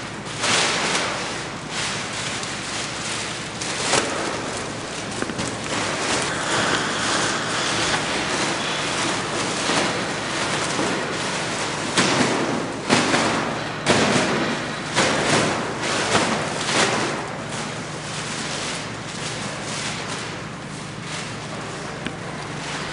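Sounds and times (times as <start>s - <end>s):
paper rustling and crumpling: 0.0s - 22.9s.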